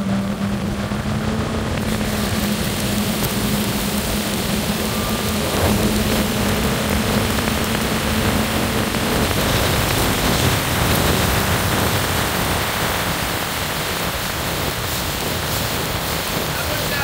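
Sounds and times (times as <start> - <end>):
low boat engine hum: 0.0 - 17.0
wind and water rushing: 0.0 - 17.0.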